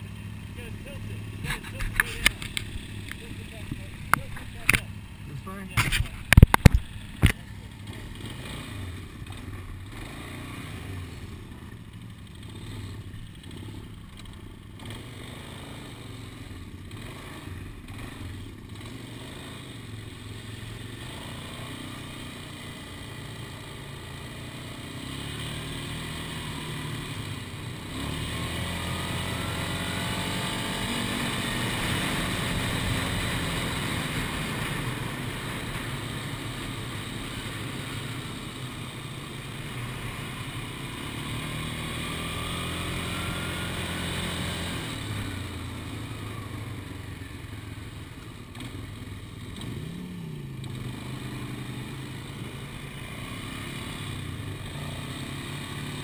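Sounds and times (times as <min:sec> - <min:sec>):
atv engine running: 0:00.0 - 0:56.0
motorcycle exhaust: 0:00.0 - 0:56.0.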